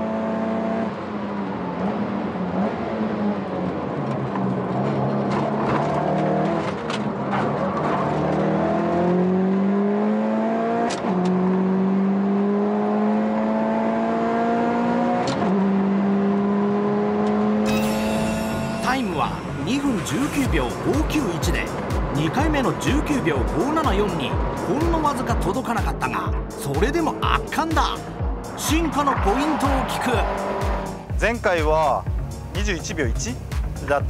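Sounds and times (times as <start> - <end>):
turbocharged car engine revving: 0.0 - 33.8.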